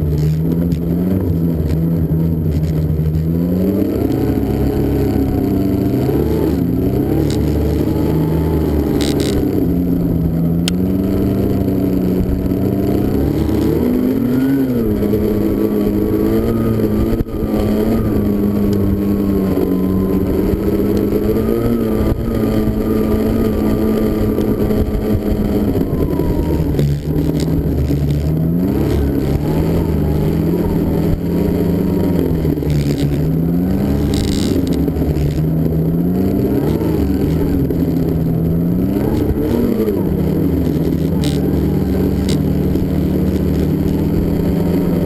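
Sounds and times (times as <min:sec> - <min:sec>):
snowmobile engine revving: 0:00.0 - 0:45.0.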